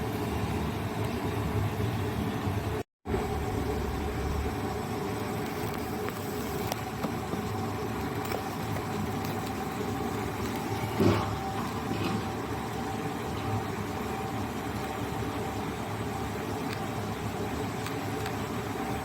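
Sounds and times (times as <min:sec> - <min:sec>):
industrial furnace drone: 0:00.0 - 0:19.0.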